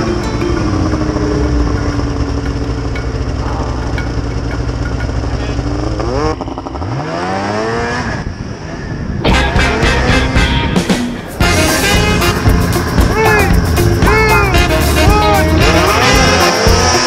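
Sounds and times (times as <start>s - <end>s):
snowmobile engines running: 0.0s - 17.0s
snowmobile engine revving: 0.6s - 17.0s.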